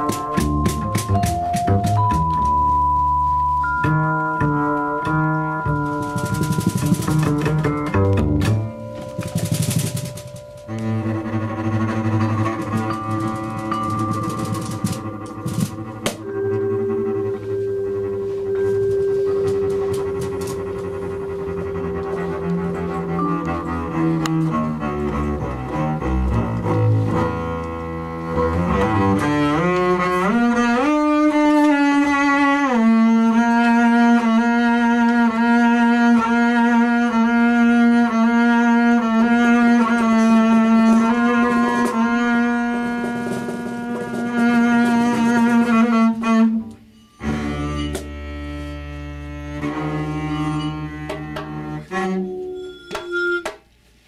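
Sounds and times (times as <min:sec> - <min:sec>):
bowed double bass: 0:00.0 - 0:54.0.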